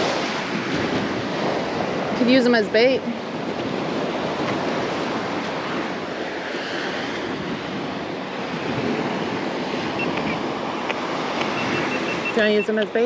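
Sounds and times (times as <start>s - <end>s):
waves washing onto sand: 0.0s - 13.0s
wind on microphone: 0.0s - 13.0s.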